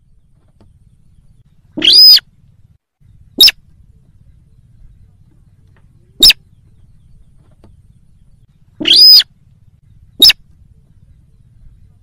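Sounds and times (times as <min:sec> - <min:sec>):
rail bird calling: 0:00.0 - 0:02.3, 0:03.0 - 0:12.0.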